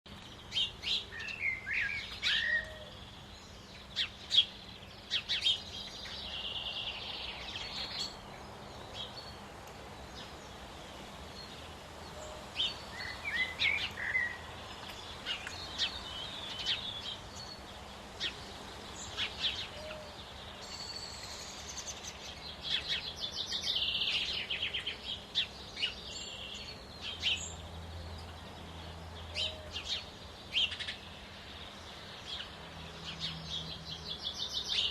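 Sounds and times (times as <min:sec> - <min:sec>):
songbirds singing: 0:00.1 - 0:34.9
steady background hiss: 0:00.1 - 0:34.9.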